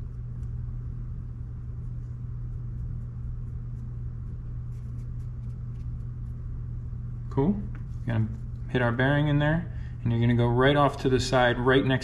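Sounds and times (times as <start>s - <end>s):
low room hum and rumble: 0.0s - 12.0s.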